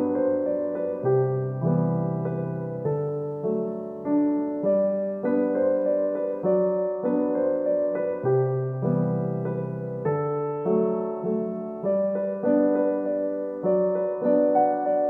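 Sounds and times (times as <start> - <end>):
gentle solo piano music: 0.0 - 15.0.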